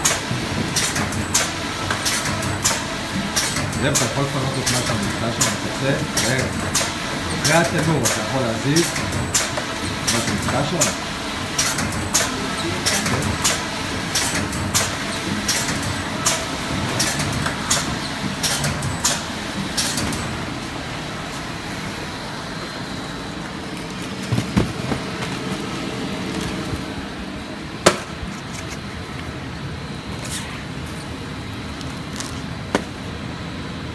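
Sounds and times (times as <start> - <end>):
machine running noise: 0.0 - 33.9.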